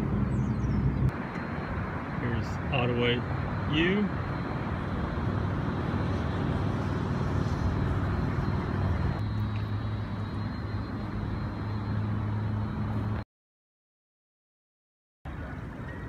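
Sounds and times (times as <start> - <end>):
low engine hum: 0.0 - 13.2
passing cars: 0.0 - 13.2.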